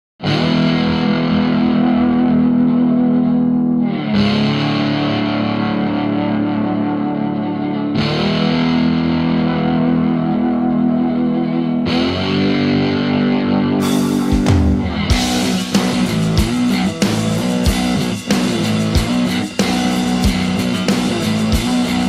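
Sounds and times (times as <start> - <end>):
distorted electric guitar chords: 0.2 - 22.0.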